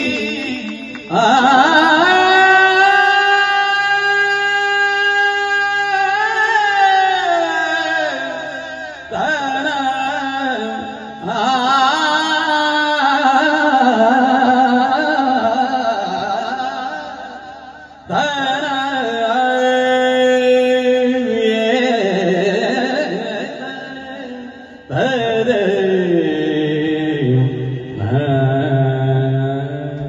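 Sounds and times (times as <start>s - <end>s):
man singing devotional song: 0.0s - 30.0s.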